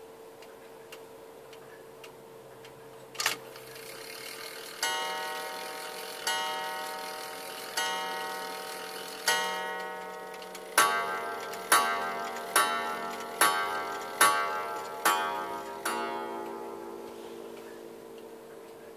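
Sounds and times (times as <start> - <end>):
clock striking: 3.2 - 18.9.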